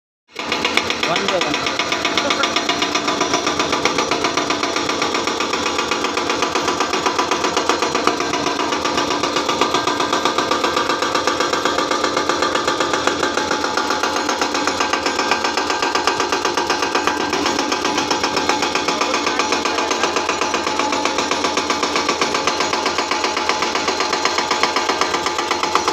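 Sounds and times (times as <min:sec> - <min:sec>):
hydraulic rock breaker hammering: 0:00.3 - 0:25.9.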